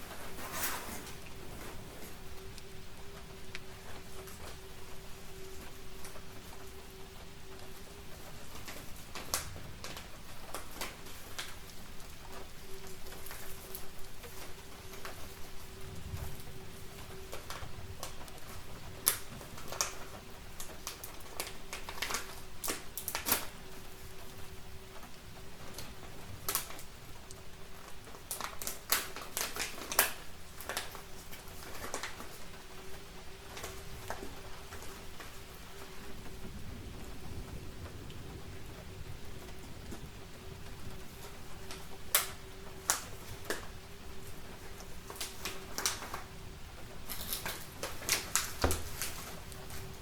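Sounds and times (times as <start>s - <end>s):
rain hissing: 0.0s - 50.0s
wood fire crackling and popping: 0.0s - 50.0s.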